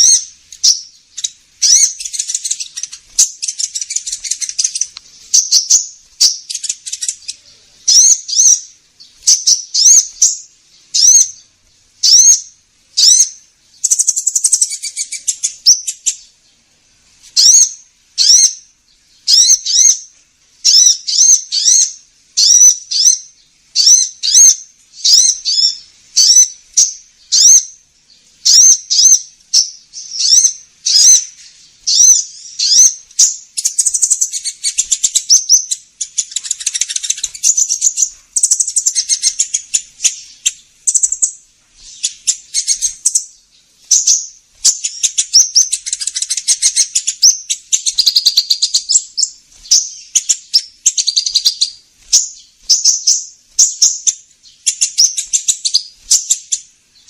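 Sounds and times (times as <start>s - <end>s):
bird high-pitched chirps: 0.0s - 16.6s, 17.3s - 57.0s.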